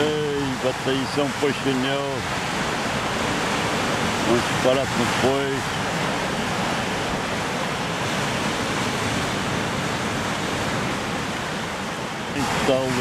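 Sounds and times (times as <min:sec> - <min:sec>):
waves washing on rocky shore: 0:00.0 - 0:13.0.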